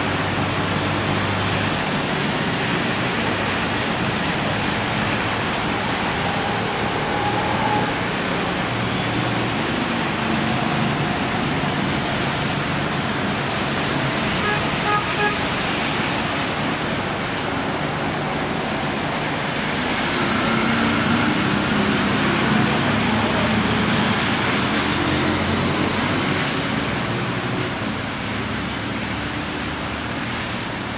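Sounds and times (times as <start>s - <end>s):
heavy rain falling: 0.0s - 30.9s
vehicle passing on wet road: 0.0s - 30.9s.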